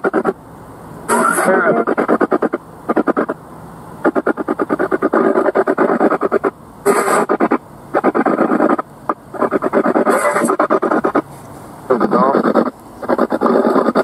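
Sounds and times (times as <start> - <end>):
pulsing radio static: 0.0 - 0.4, 1.0 - 14.0.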